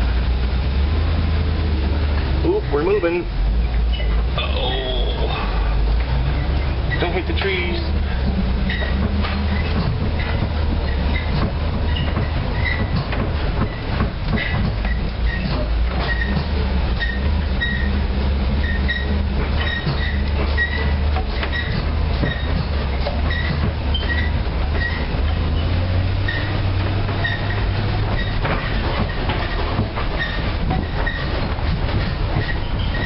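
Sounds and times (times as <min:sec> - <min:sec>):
bus engine running: 0:00.0 - 0:33.0
bus knocks and rattles: 0:00.0 - 0:33.0.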